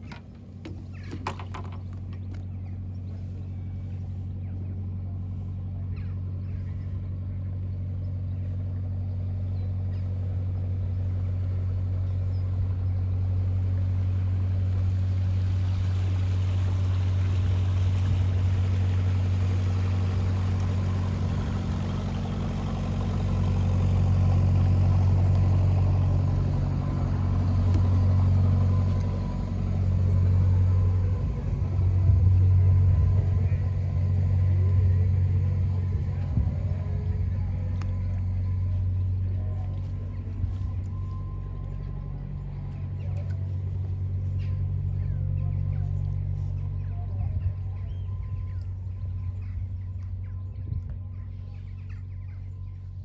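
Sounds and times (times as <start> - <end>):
motor boat engine humming: 0.0 - 53.0.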